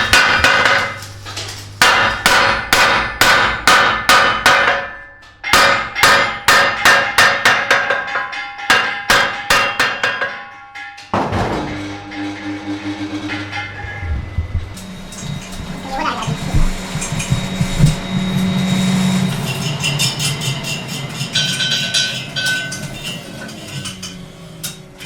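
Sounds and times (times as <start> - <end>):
hammer striking metal rim: 0.0 - 1.1, 1.8 - 24.8.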